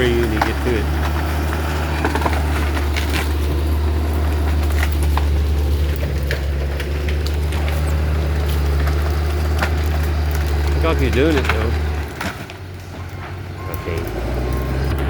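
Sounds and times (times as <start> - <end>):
brush cracking and snapping: 0.0 - 15.0
diesel engine running under load: 0.0 - 15.0.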